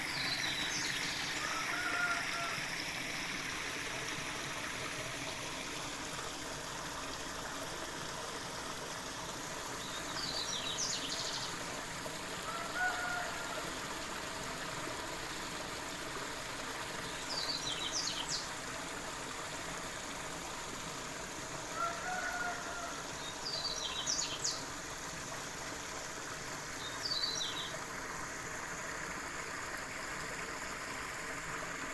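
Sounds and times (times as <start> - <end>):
stream water rushing: 0.0 - 31.9.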